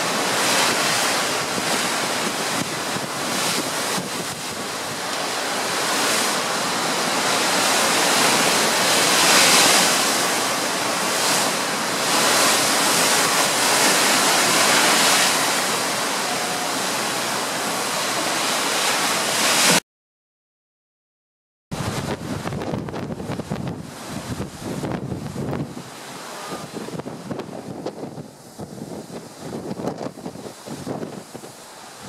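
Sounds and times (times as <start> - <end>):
sea water rushing along ship hull: 0.0 - 19.8, 21.8 - 32.0
wind on microphone: 0.0 - 19.8, 21.8 - 32.0.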